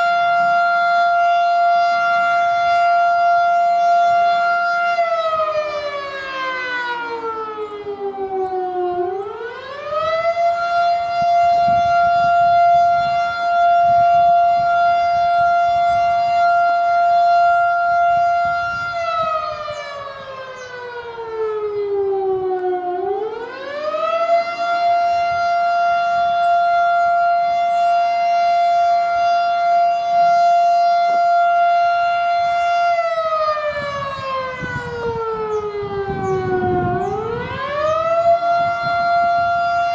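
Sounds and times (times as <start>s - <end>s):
storm siren winding: 0.0s - 39.9s.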